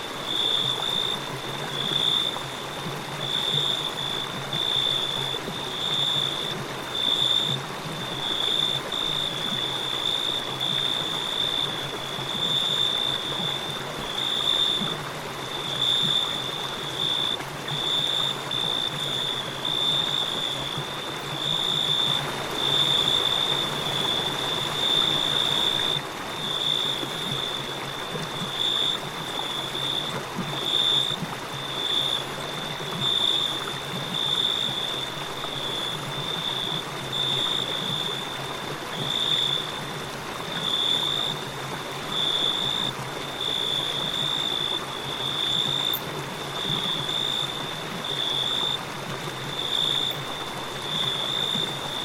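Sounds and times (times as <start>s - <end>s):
crickets chirping: 0.0s - 52.0s
flowing stream: 0.0s - 52.0s.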